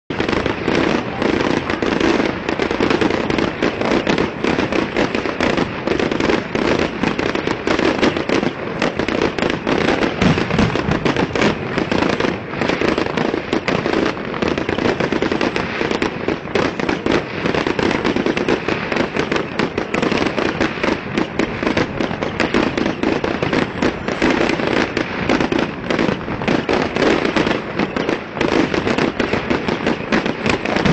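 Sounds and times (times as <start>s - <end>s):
fireworks bangs and crackling: 0.1s - 30.9s.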